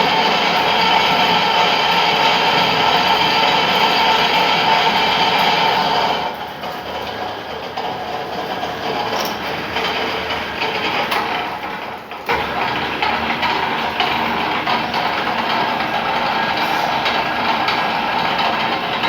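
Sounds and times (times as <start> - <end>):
lathe rumbling and grinding: 0.0 - 19.0.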